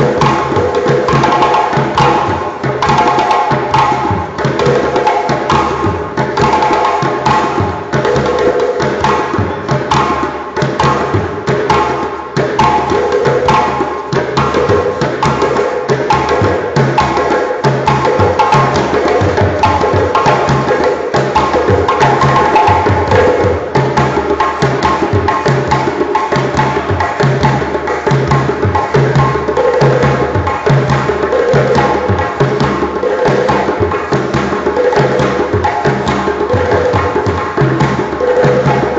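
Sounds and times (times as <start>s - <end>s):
drums playing fast rhythm: 0.0s - 38.9s
hand-drum strikes: 0.0s - 38.9s.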